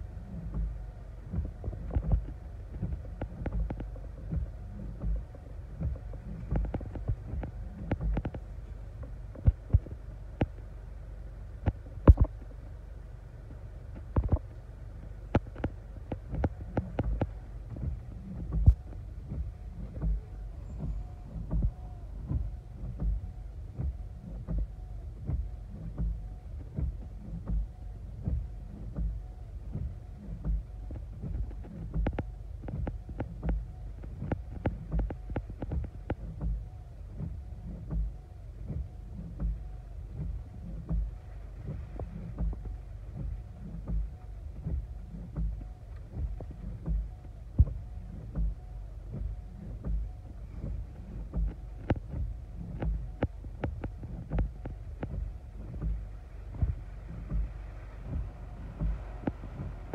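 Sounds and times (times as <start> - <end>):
gusty wind buffeting a car: 0.0 - 59.9
rain striking windshield: 0.0 - 59.9.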